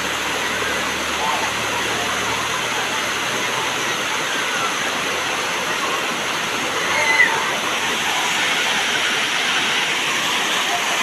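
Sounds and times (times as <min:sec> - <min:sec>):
waterfall rushing: 0:00.0 - 0:11.0
faint people's voices: 0:00.1 - 0:11.0.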